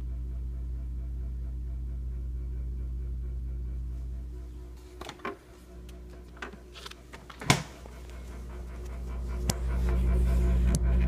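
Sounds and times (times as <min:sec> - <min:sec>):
refrigerator humming: 0:00.0 - 0:11.0.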